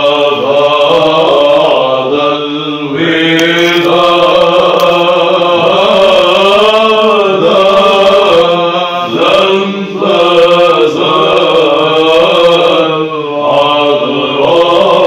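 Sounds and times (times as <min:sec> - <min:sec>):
low held vocal drone: 0:00.0 - 0:15.0
male choir chanting melody: 0:00.0 - 0:15.0.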